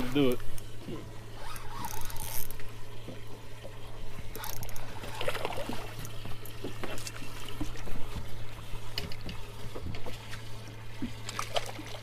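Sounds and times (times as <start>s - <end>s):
steady low hum: 0.0s - 12.0s
water lapping against boat hull: 0.0s - 12.0s.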